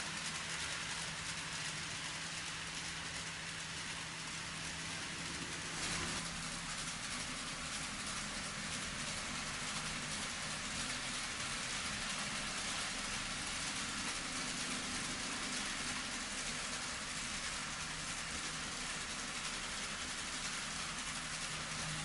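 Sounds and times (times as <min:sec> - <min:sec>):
faint motor hum: 0:00.0 - 0:22.0
model train wheels rattling: 0:00.0 - 0:22.0.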